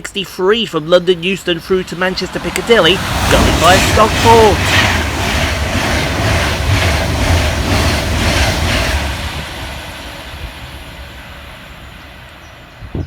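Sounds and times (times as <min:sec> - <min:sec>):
electric train passing at speed: 0:00.0 - 0:13.0
train wheels beating: 0:00.0 - 0:13.0.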